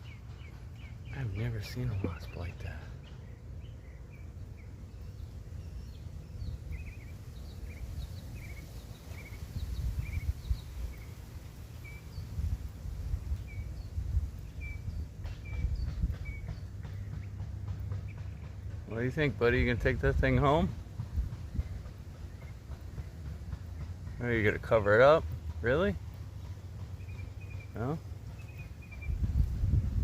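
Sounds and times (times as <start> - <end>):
bird chirping: 0.0 - 30.0
low outdoor rumble: 0.0 - 30.0.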